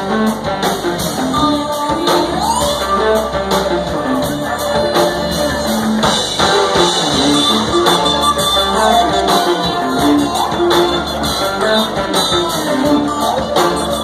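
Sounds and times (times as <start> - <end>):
live band playing: 0.0 - 14.0
melodic electric guitar: 0.0 - 14.0.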